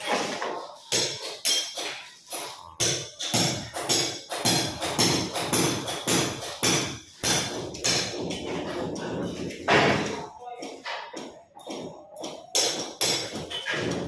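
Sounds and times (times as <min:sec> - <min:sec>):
rhythmic sharp knocking: 0:00.9 - 0:14.0.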